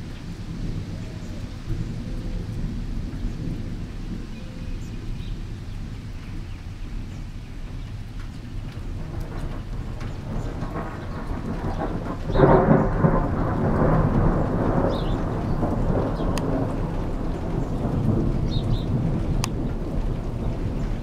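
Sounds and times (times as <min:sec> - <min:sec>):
steady rain: 0:00.0 - 0:21.0
thunder rumbling and clapping: 0:00.0 - 0:21.0.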